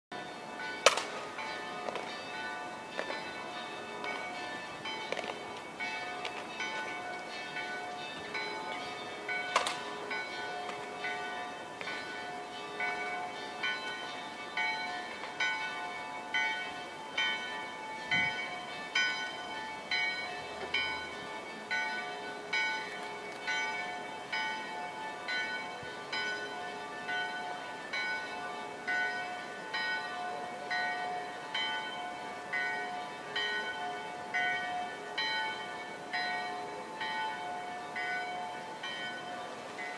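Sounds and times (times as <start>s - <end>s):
church bells ringing: 0.1s - 39.9s.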